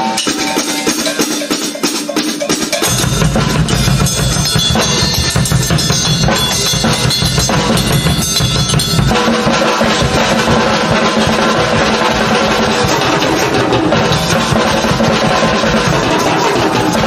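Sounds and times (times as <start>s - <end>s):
drum kit playing: 0.0s - 17.0s.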